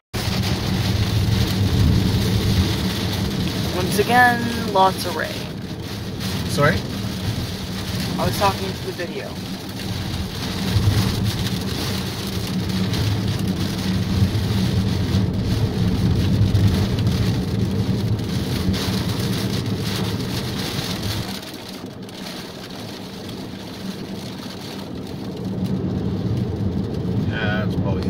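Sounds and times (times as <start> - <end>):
car driving on wet road: 0.1 - 28.0
heavy rain drumming on car roof: 0.1 - 28.0.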